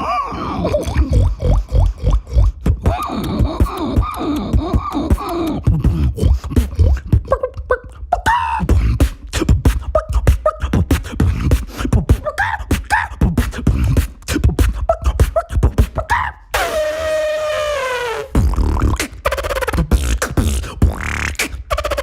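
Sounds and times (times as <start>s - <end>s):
beatboxing with vocal calls: 0.0s - 22.0s.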